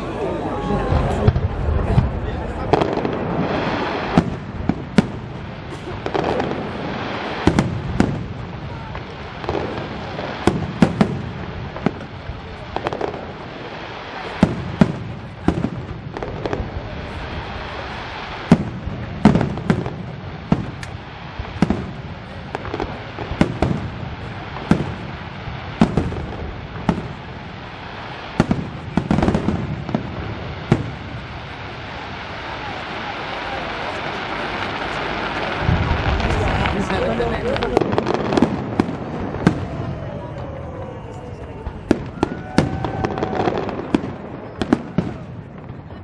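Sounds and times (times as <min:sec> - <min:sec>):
fireworks bangs: 0:00.0 - 0:46.0.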